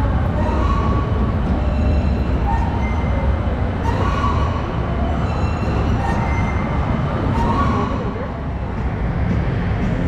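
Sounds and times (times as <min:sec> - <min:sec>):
indoor hall background rumble: 0:00.0 - 0:10.0.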